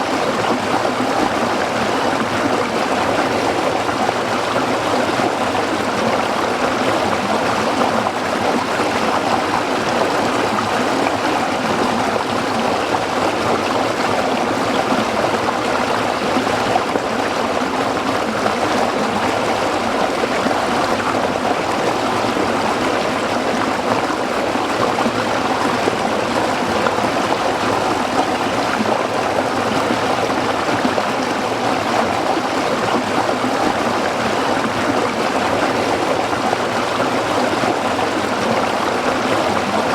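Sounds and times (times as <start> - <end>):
stream splashing over rocks: 0.1 - 39.9.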